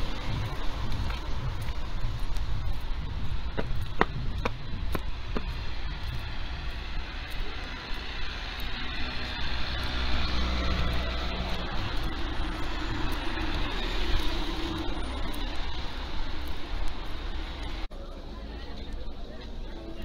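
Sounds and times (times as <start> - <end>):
cars passing on wet road: 0.0 - 20.0.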